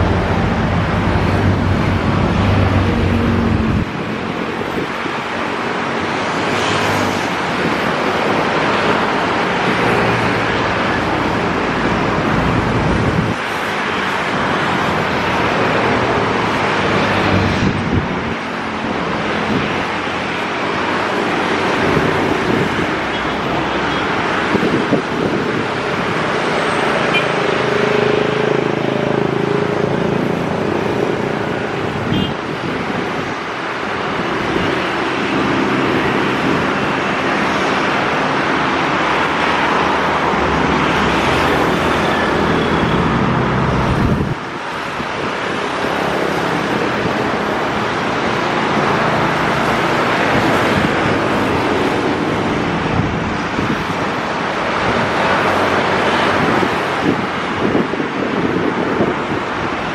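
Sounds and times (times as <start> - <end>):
jet airliner roar: 0.0 - 59.8
road traffic noise: 0.0 - 59.9.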